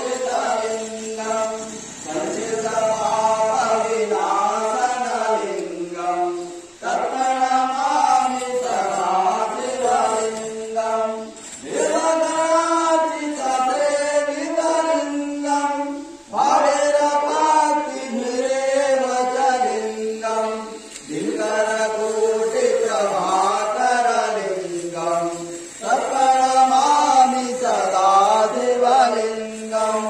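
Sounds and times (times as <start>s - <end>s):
devotional chanting: 0.0s - 30.0s.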